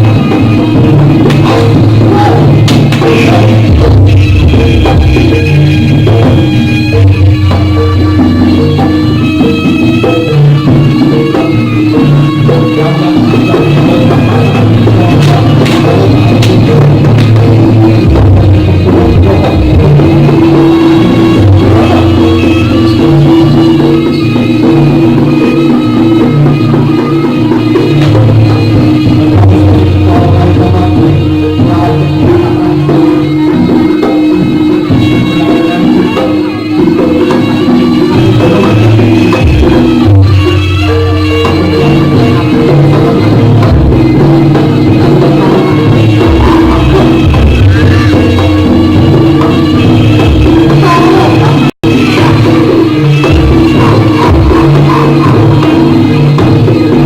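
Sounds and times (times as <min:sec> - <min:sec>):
heavy bass line: 0:00.0 - 0:57.0
live ensemble music with drums: 0:00.0 - 0:57.0.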